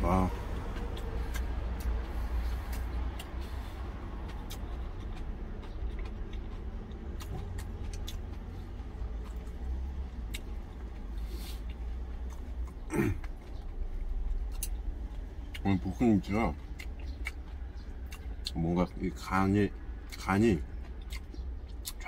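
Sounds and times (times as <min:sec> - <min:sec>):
low vehicle rumble: 0:00.0 - 0:22.0
person chewing food: 0:00.0 - 0:22.0.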